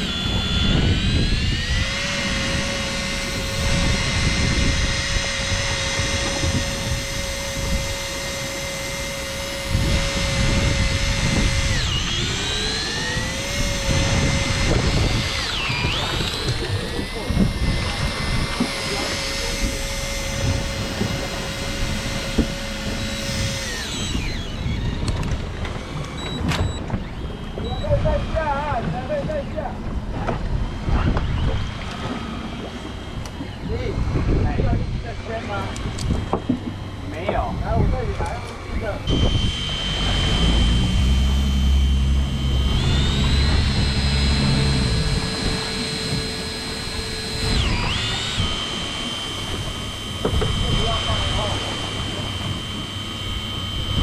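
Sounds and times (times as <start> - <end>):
boat noise: 0.0 - 54.0
electric fishing reel motor whining: 0.0 - 54.0
low rumble of wind: 0.0 - 54.0.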